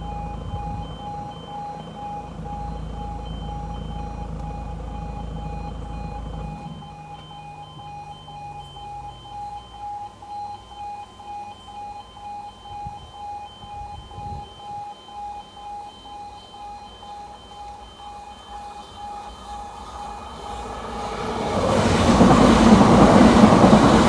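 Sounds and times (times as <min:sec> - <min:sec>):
level crossing alarm two-tone: 0:00.0 - 0:24.0.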